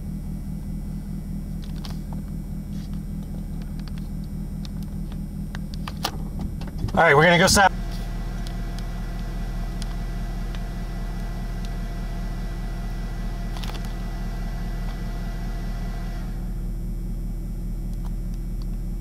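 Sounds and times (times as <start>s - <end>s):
faint high whine: 0.0s - 19.0s
vehicle engine idling: 0.0s - 19.0s.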